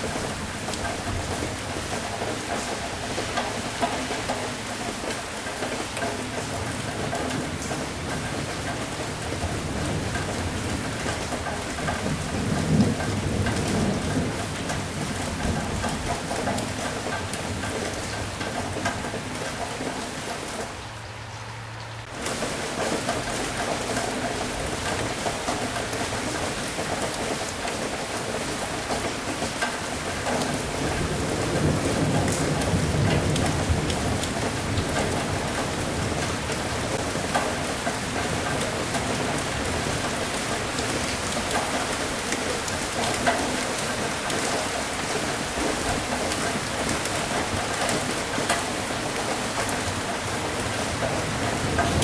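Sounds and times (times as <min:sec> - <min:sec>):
rain pattering: 0:00.0 - 0:52.0
thunder rumble: 0:06.4 - 0:20.8, 0:22.0 - 0:52.0.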